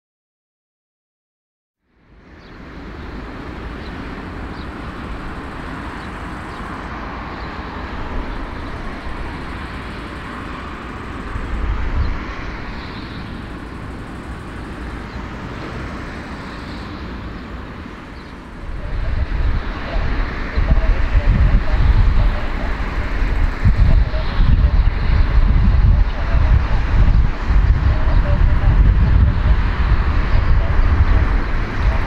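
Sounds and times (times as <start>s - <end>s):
jet engines rumbling: 2.0s - 32.0s.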